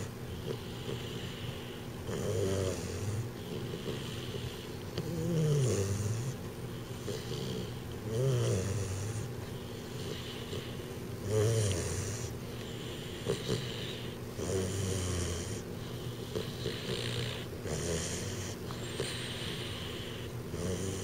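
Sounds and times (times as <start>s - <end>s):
puppy snoring: 0.0s - 21.0s.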